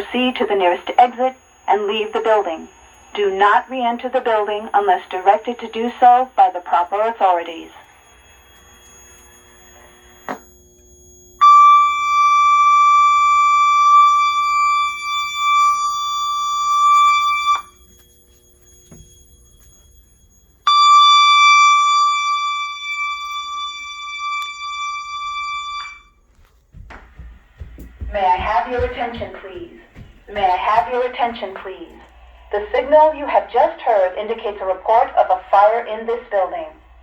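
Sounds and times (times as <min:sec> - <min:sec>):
fire alarm high tone: 0:00.0 - 0:37.0.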